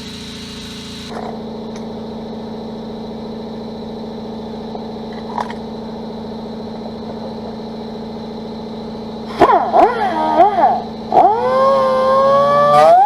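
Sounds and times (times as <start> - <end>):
motor hum: 0.0 - 13.0.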